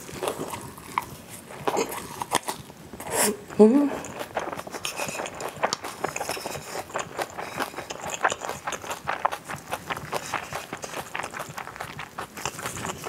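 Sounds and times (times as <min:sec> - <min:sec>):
close chewing crunches: 0:00.0 - 0:13.0.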